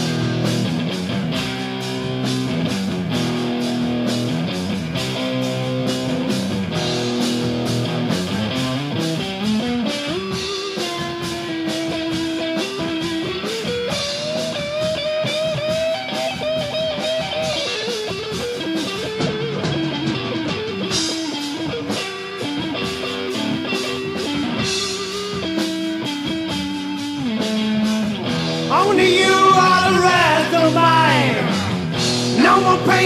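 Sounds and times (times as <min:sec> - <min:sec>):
drum kit: 0:00.0 - 0:33.0
lead guitar melody: 0:00.0 - 0:33.0
strummed guitar: 0:00.0 - 0:33.0.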